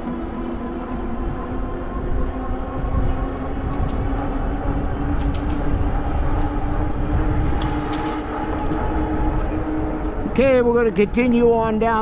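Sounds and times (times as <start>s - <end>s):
tyres and hub motor humming: 0.0s - 12.0s
wind rumble on microphone: 0.0s - 12.0s.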